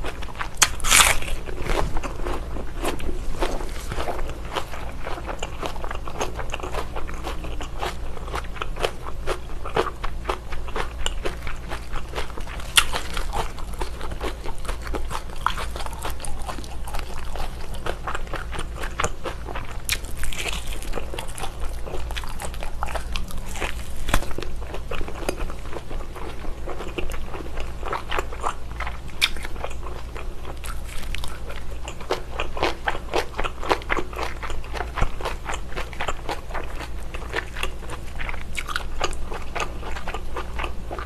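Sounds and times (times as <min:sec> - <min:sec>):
crunchy bacon chewing: 0:00.0 - 0:41.0.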